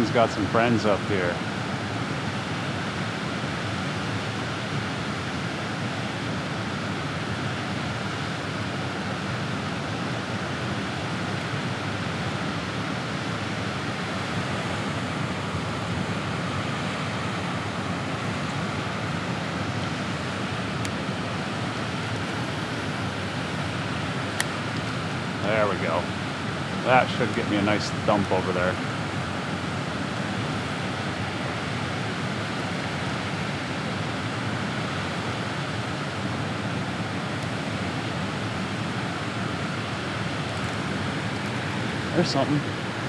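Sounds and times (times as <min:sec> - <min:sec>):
water rushing through spillway: 0:00.0 - 0:43.0.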